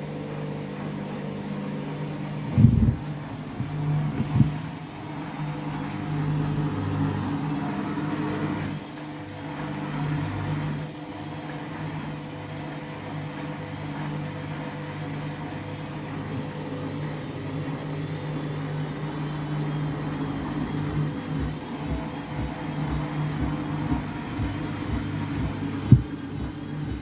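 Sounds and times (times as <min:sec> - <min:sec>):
washing machine spinning: 0:00.0 - 0:27.0
drum low pulsing: 0:00.2 - 0:10.8, 0:15.2 - 0:27.0.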